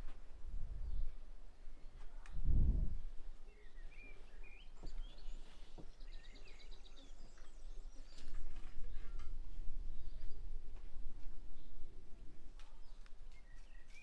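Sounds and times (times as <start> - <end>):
small birds chirping: 0.7 - 14.0.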